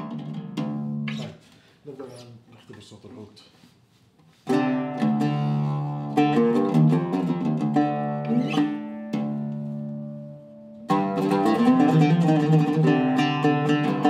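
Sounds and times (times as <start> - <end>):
oud plucked with a plectrum: 0.0 - 1.6, 4.3 - 14.0.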